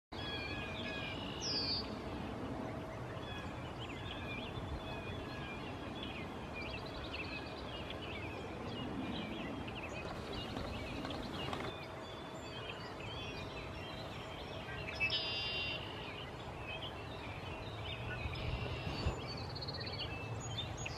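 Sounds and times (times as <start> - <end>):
songbirds chirping and singing: 0.2 - 20.9.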